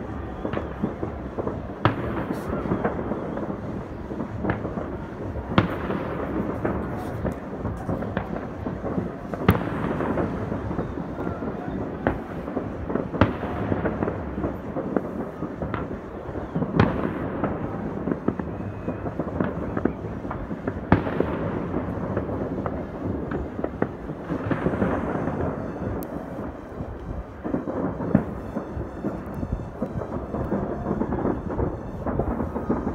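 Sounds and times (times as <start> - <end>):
distant fireworks rumble and crackling: 0.0 - 32.9
sharp firework bangs: 0.0 - 32.9.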